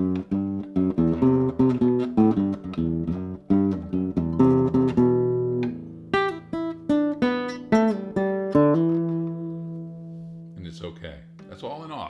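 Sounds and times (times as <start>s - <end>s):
nylon-string guitar plucked chords: 0.0s - 12.0s.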